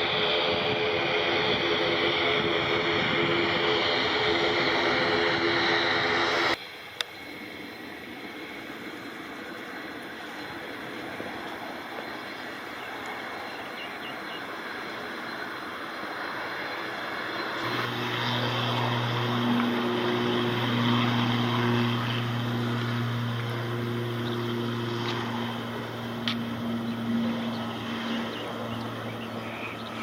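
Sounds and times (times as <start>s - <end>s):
low droning hum: 0.0s - 6.6s, 7.2s - 30.0s
jet engine rushing: 0.0s - 30.0s.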